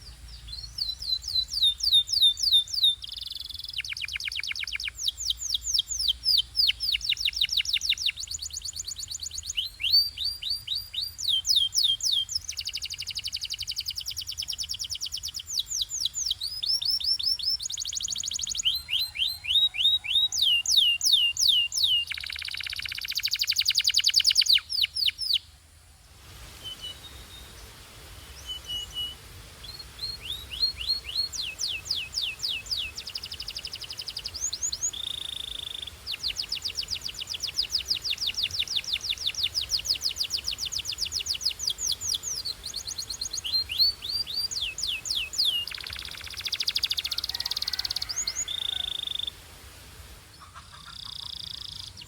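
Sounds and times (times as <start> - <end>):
canary singing: 0.0 - 25.4, 28.3 - 49.4.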